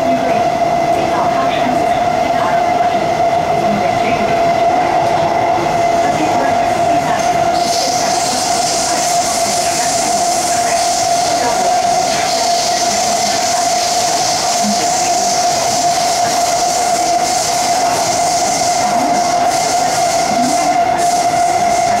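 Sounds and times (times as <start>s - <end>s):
steady whine: 0.0s - 22.0s
train running noise: 0.0s - 22.0s.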